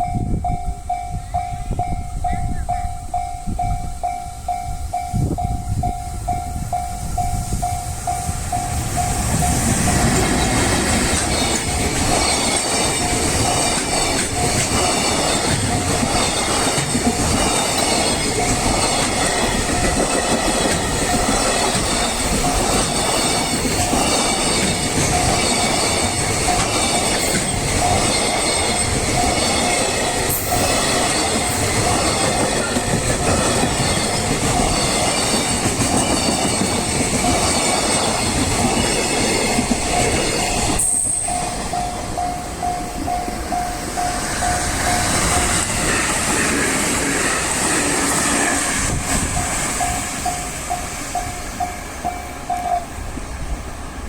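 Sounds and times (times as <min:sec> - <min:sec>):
level crossing warning bell: 0:00.0 - 0:46.3, 0:48.9 - 0:53.6
train wheels clattering: 0:04.9 - 0:53.6.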